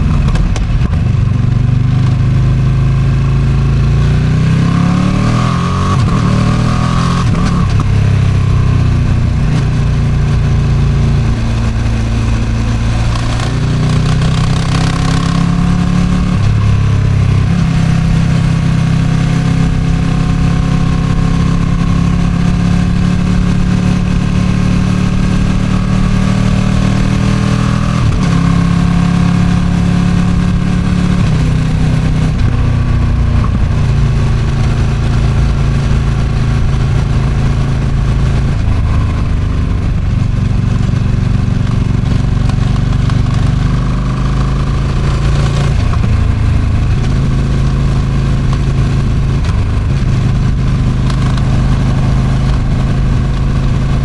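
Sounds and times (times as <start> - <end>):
motorcycle engine running: 0.0 - 54.0
wind noise on microphone: 3.8 - 54.0.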